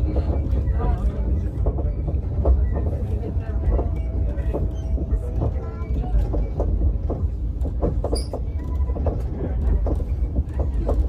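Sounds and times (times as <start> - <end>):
people talking: 0.0 - 7.4, 8.8 - 11.0
train rumbling: 0.0 - 11.0.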